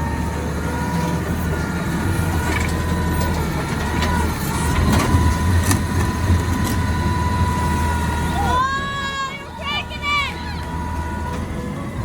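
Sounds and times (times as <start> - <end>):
lifting arm whine: 0.0 - 12.0
truck engine rumble: 0.0 - 12.0.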